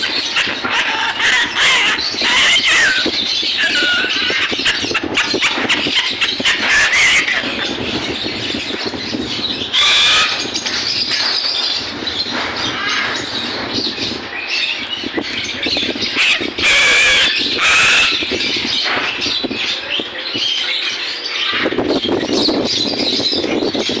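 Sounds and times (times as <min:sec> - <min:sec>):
parrots squawking and chattering: 0:00.0 - 0:14.5, 0:15.2 - 0:23.3.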